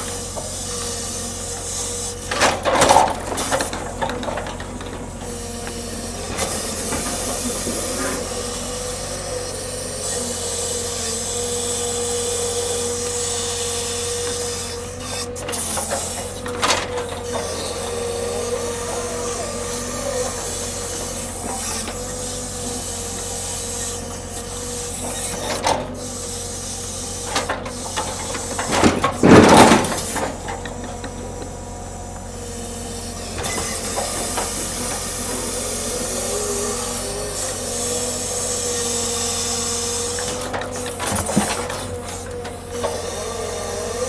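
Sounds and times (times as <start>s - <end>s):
hydraulic machinery whining: 0.0s - 44.0s.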